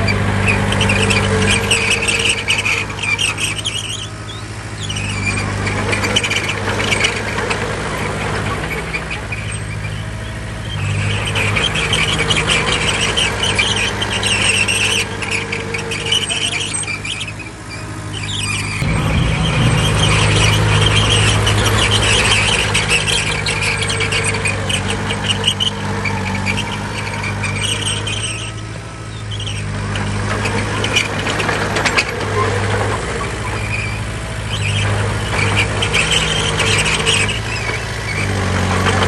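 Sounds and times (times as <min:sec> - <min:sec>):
diesel machine engine: 0:00.0 - 0:39.0
high metallic squeal: 0:00.0 - 0:39.0.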